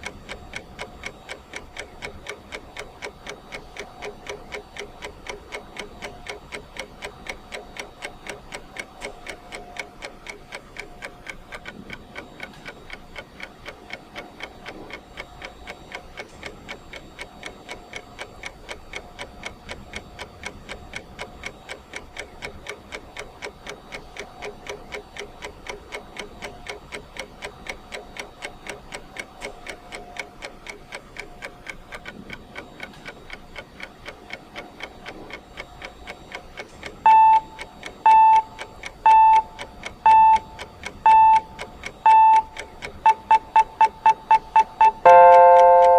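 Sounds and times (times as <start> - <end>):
clock ticking: 0.0 - 45.9.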